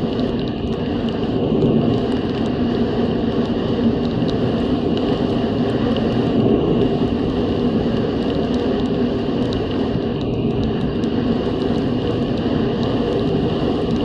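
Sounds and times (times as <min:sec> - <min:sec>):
snowmobile engine and track drone: 0:00.0 - 0:14.0.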